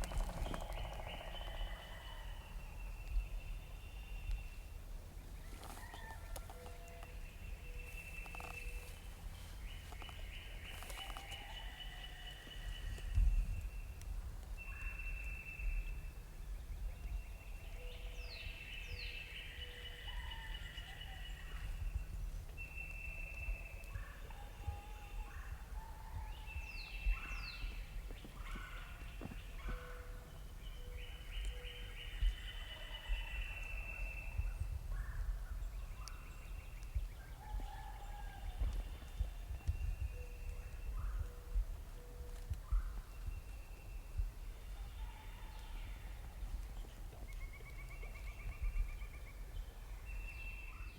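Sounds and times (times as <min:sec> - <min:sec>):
songbirds calling: 0:00.0 - 0:50.9.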